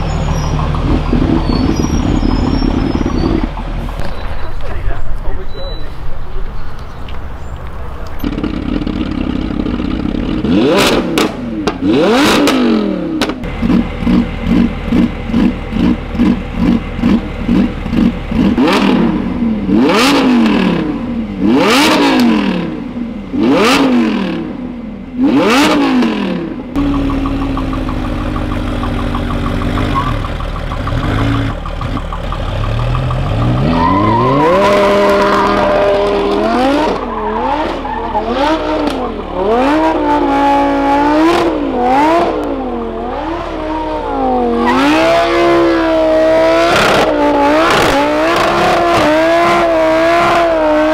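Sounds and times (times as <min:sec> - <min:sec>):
car engine idling: 0:00.0 - 0:25.6, 0:26.4 - 0:49.8
car engine revving: 0:00.0 - 0:50.9.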